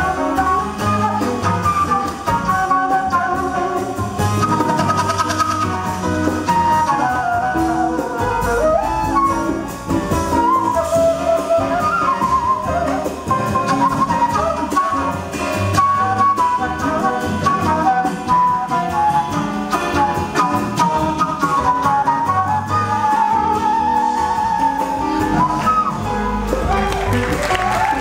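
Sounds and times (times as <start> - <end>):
double bass: 0.0 - 28.0
drums: 0.0 - 28.0
flute jazz solo: 0.0 - 28.0
piano: 0.0 - 28.0.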